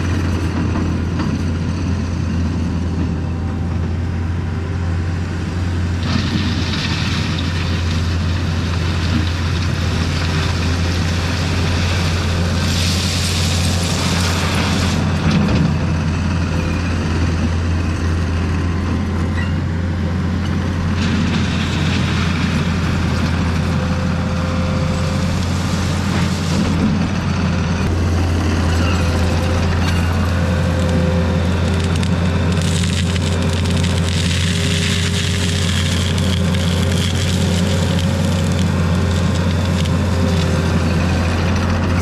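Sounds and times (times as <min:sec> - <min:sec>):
heavy machine engine humming: 0:00.0 - 0:42.0.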